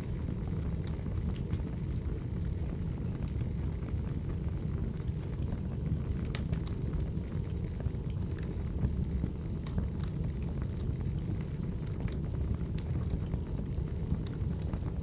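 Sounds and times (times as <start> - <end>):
fire crackles and pops: 0.0 - 15.0
low fire rumble: 0.0 - 15.0.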